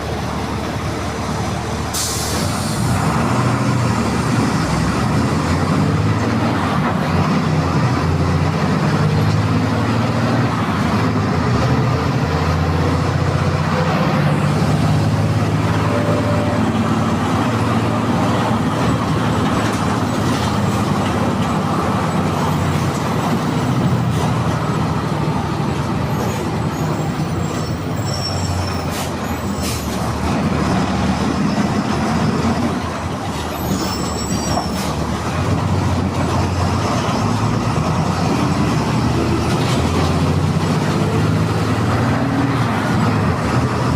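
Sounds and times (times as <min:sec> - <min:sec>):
diesel bus engine running: 0:00.0 - 0:43.9.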